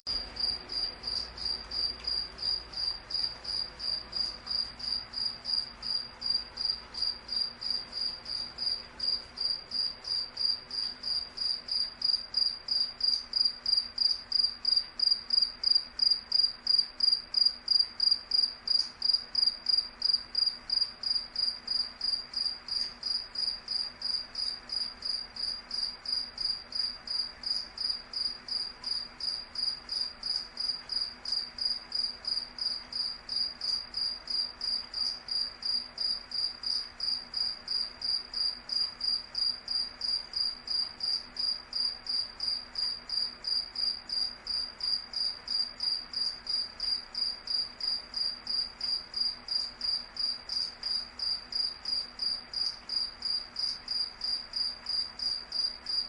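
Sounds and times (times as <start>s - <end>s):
cricket chirping: 0.1s - 56.0s.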